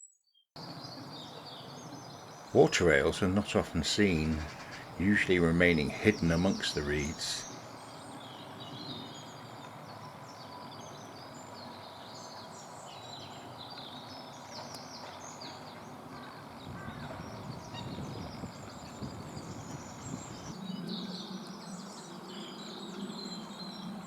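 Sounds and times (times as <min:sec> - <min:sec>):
small birds chirping: 0:00.0 - 0:24.0
outdoor background hiss: 0:00.6 - 0:24.0.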